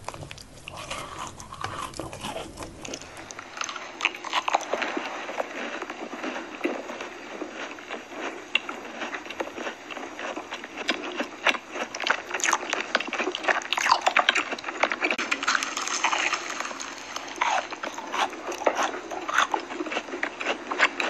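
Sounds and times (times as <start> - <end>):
chewing soft food: 0.0 - 21.0.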